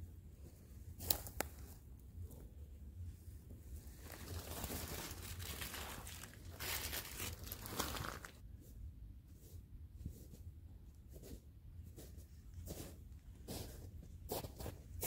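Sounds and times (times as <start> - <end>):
rustling and crinkling: 0.4 - 15.0.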